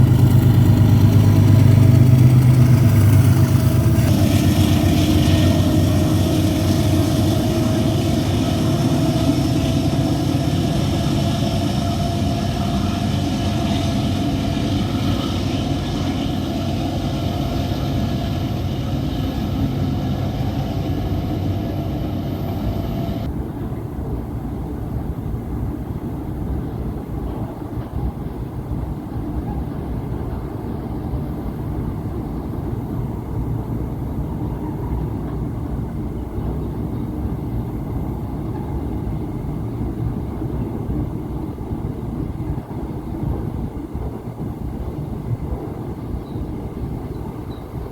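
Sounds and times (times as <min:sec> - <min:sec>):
freight train rumble: 0:00.0 - 0:47.9.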